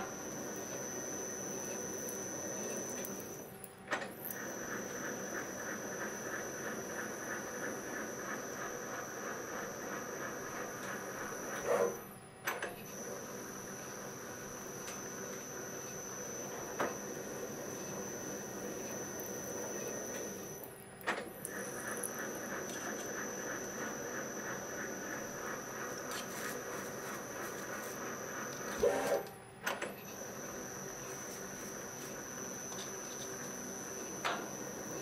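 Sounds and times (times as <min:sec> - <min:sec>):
mill spindle motor whining: 0:00.0 - 0:35.0.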